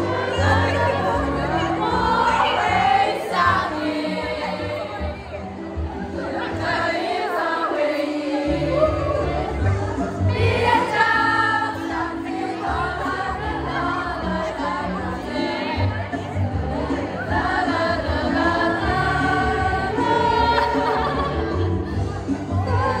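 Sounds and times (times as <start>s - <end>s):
musical accompaniment with bass: 0.0s - 7.0s, 8.4s - 23.0s
choir singing: 0.0s - 23.0s.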